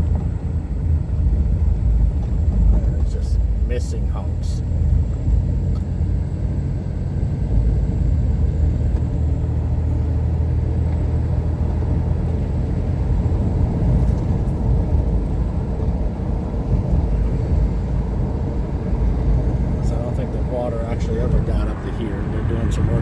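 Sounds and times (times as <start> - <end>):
car engine drone: 0.0 - 23.0.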